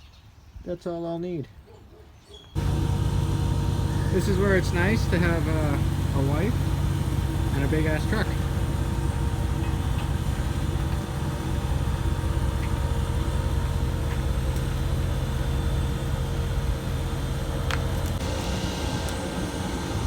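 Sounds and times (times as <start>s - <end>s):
vehicle engine humming: 2.6s - 20.0s.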